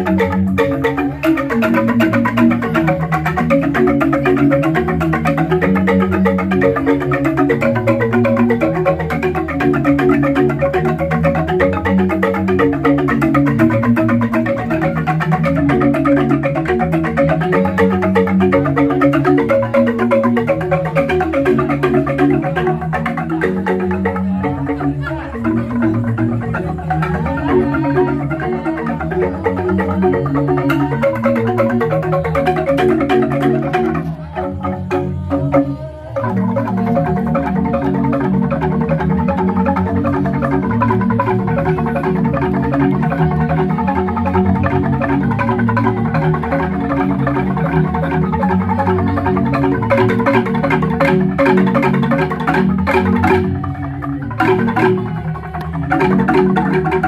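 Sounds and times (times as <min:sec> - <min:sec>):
bamboo xylophone strikes: 0:00.0 - 0:57.0.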